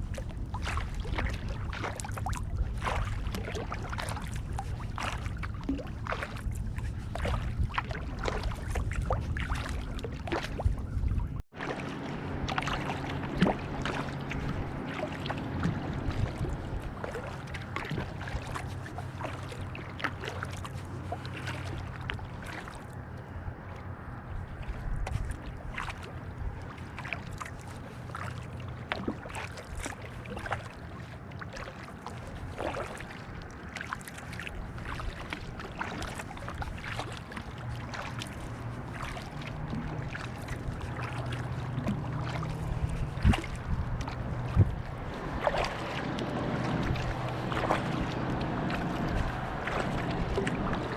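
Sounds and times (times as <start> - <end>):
low steady hum: 0.0 - 50.9
paddles dipping into water: 0.0 - 50.9.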